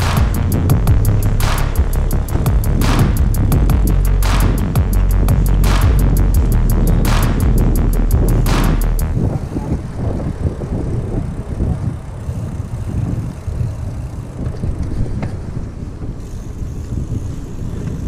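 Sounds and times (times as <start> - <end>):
bike tyre noise on pavement: 0.0 - 18.0
wind on microphone: 0.0 - 18.0.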